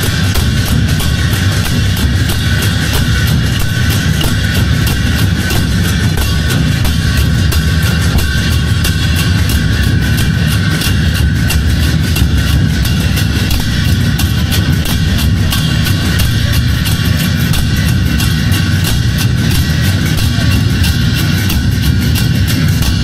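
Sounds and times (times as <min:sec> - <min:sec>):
barrel drums rolling: 0:00.0 - 0:23.0
hand cymbals clashing: 0:00.0 - 0:23.0.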